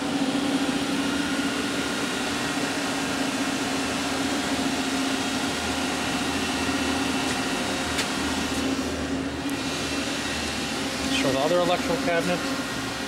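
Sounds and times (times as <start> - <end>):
machine hum with fan hiss: 0.0 - 13.0.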